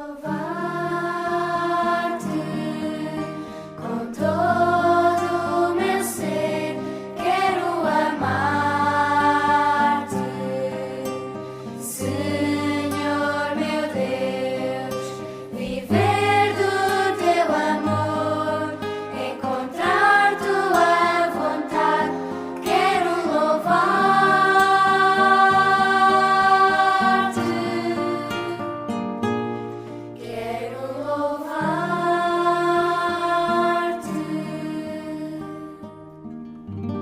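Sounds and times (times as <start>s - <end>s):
voices singing religious song: 0.0s - 29.0s, 30.2s - 35.9s.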